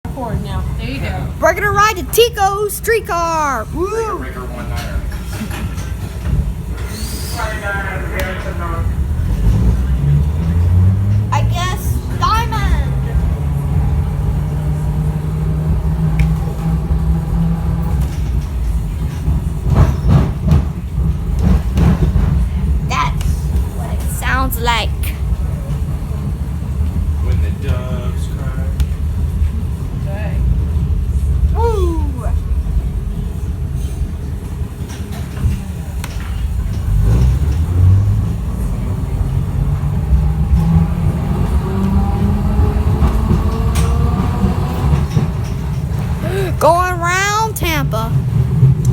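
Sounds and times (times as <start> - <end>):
rumble of wheels: 4.3 - 24.1, 25.1 - 46.5.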